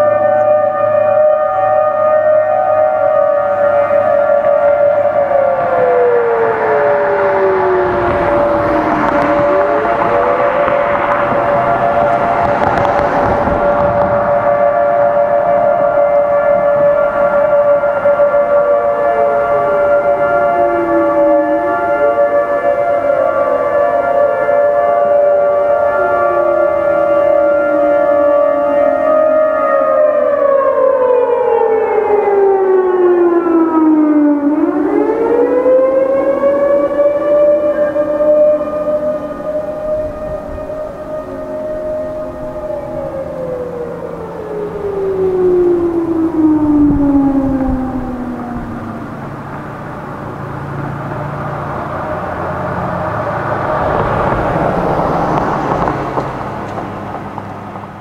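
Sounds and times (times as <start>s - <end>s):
road vehicle passing by: 0.0s - 31.0s, 33.0s - 58.0s
mechanical warning siren wailing: 0.0s - 57.1s.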